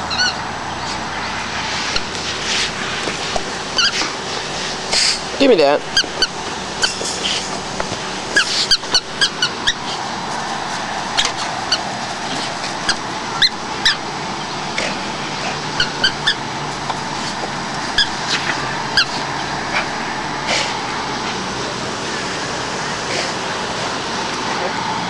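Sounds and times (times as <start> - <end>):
steady background noise: 0.0 - 25.0.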